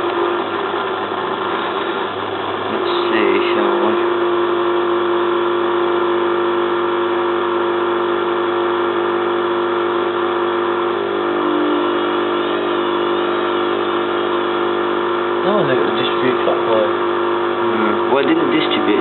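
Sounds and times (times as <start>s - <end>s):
low tone: 0.0s - 19.0s
washing machine motor running: 0.0s - 19.0s.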